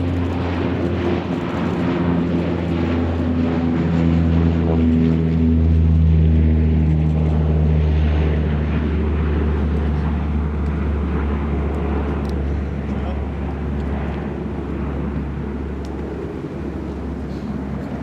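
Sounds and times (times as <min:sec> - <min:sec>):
propeller tones: 0:00.0 - 0:18.0
turboprop engines running: 0:00.0 - 0:18.0.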